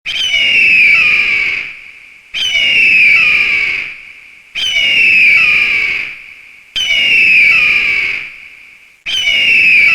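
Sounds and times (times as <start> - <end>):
eagle screaming: 0.1 - 6.2, 6.8 - 8.4, 9.1 - 9.9.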